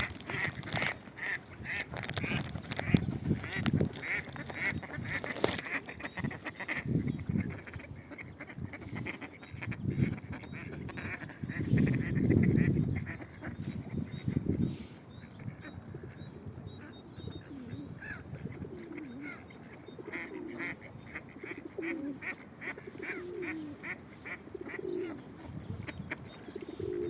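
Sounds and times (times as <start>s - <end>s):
waterfowl calling: 0.0s - 13.6s, 16.8s - 27.0s.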